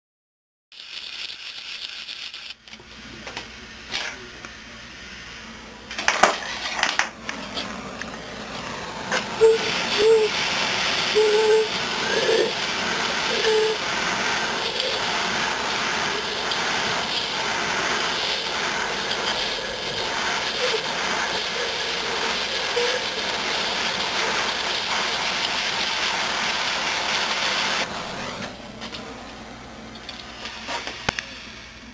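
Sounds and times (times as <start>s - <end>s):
hand torch flame hissing: 3.8s - 31.9s.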